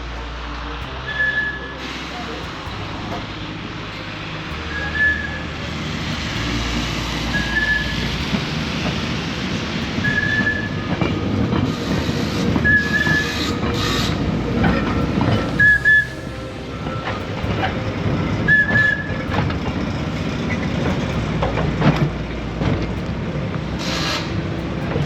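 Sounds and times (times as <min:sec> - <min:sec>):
tram wheels and motors rumbling: 0:00.0 - 0:25.0.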